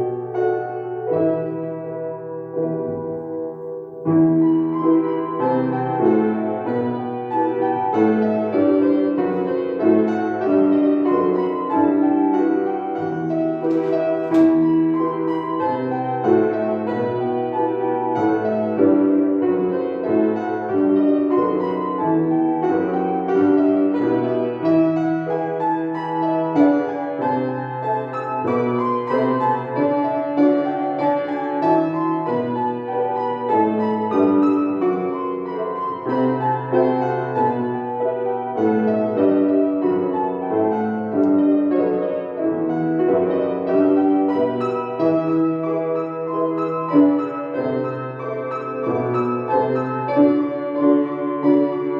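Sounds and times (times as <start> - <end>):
solo piano playing: 0.0 - 51.9.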